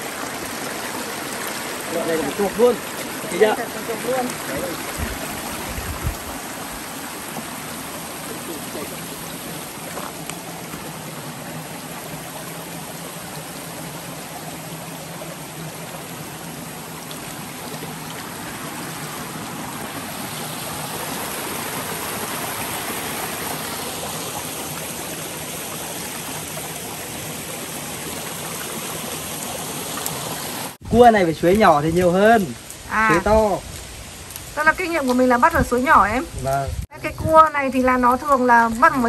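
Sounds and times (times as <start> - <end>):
stream running over stones: 0.0 - 39.0.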